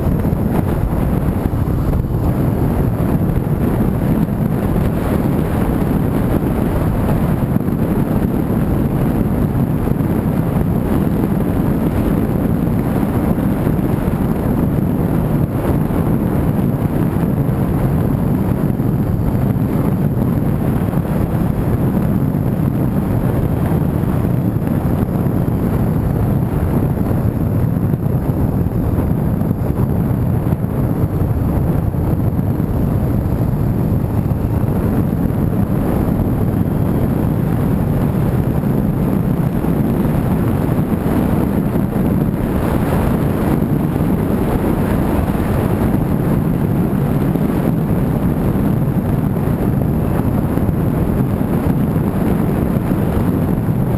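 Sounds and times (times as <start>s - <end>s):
car road and engine noise: 0.0s - 53.9s.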